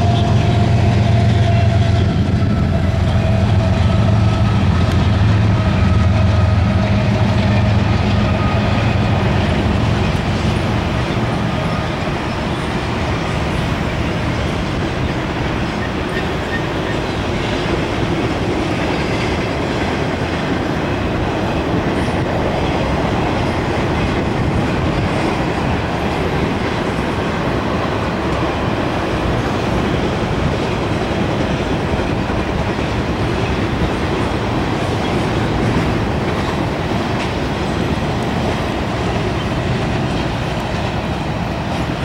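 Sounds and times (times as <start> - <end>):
train wheels on rail: 0.0 - 42.0.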